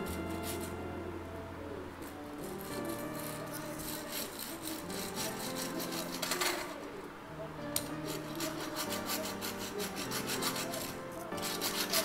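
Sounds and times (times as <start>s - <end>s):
stylus scratching on glass screen: 0.0s - 1.0s, 2.0s - 7.0s, 7.6s - 12.0s.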